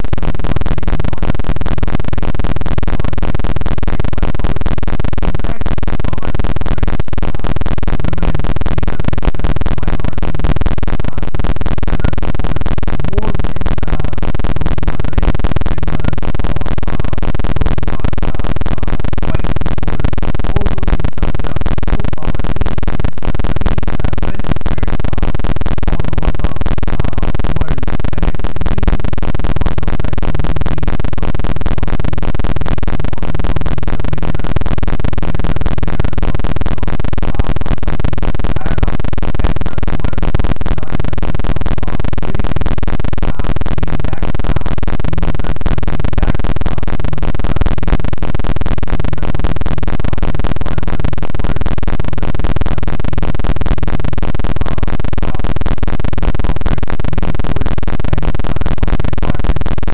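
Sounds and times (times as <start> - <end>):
harsh distorted garbled noise: 0.0 - 59.9.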